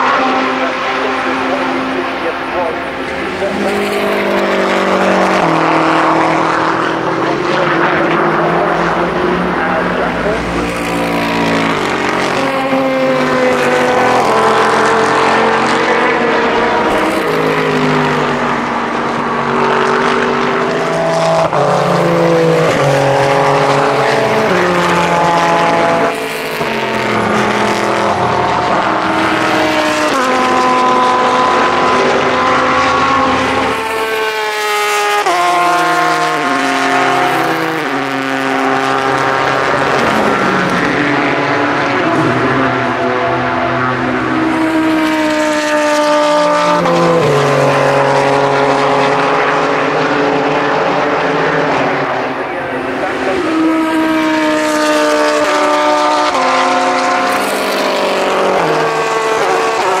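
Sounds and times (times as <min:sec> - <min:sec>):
race cars passing: 0:00.0 - 1:00.0.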